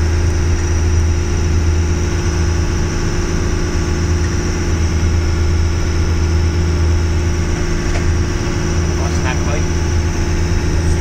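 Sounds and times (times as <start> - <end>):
boat engine low drone: 0.0 - 11.0.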